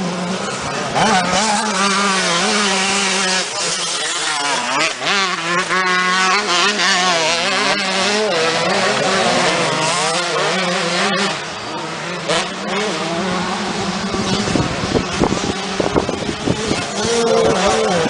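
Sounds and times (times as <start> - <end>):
motocross bikes revving: 0.0 - 18.0.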